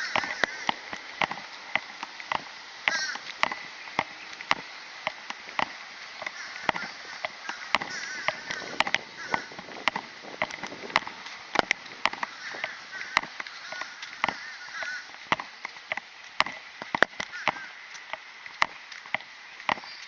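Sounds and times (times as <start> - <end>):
sharp clicks and knocks: 0.0 - 20.0
steady hiss: 0.0 - 20.0.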